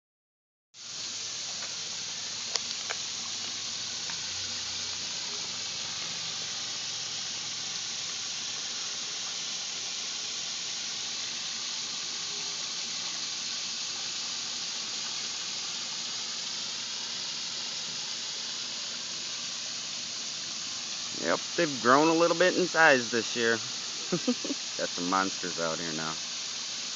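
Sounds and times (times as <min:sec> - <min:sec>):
waterfall splashing into pond: 0:00.8 - 0:26.9.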